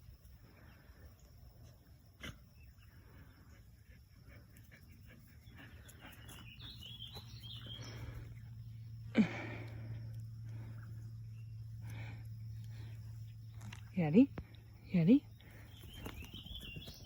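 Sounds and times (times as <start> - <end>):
faint outdoor sounds: 0.0 - 17.0.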